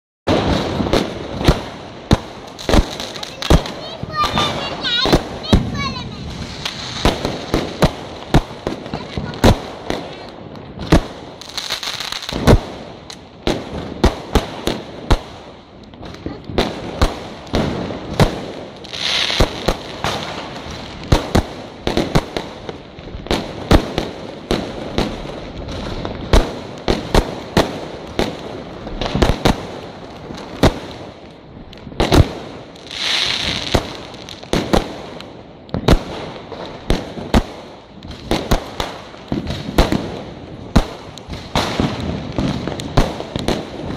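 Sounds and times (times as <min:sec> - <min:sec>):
fireworks bangs and cracks: 0:00.3 - 0:43.9
hissing crackle: 0:00.5 - 0:43.9.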